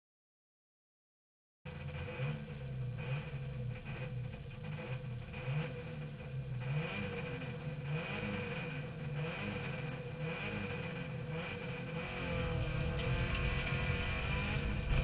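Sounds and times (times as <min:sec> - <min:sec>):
rally car engine revving: 0:01.7 - 0:15.0.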